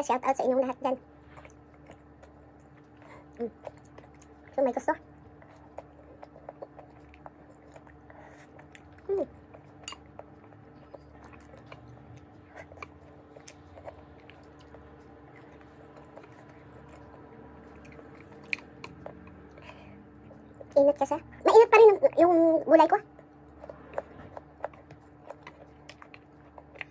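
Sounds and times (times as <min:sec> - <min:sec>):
chewing vegetables: 0:00.0 - 0:26.9.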